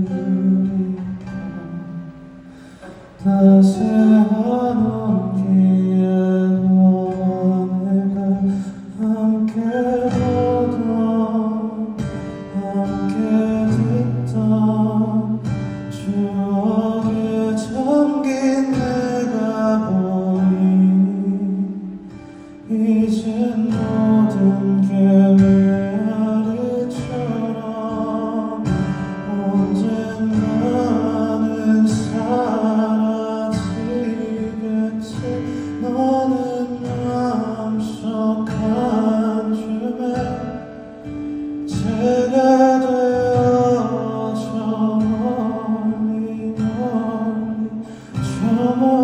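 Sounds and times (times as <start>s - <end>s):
guitar and band accompaniment: 0.0s - 4.9s, 6.6s - 49.0s
man singing pop song: 0.0s - 49.0s.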